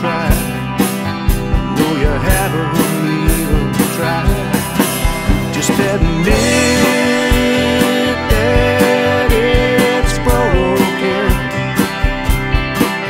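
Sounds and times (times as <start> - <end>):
person singing: 0.0 - 0.6, 1.7 - 11.9
rock band playing: 0.0 - 13.0
steady drum beat: 0.0 - 13.0.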